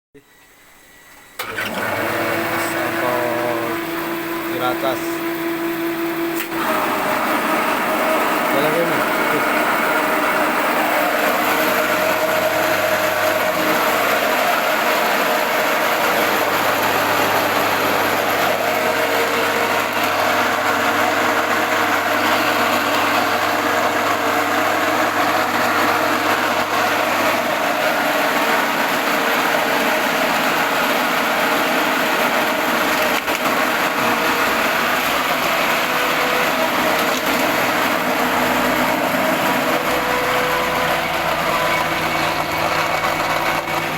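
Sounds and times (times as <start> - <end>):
grinding machine running: 0.8 - 43.9.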